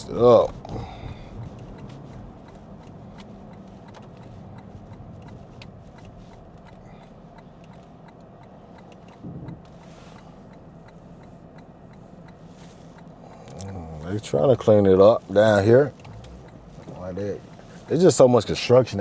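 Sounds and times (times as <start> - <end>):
engine and road hum: 0.0 - 19.0
light regular ticking: 0.0 - 19.0.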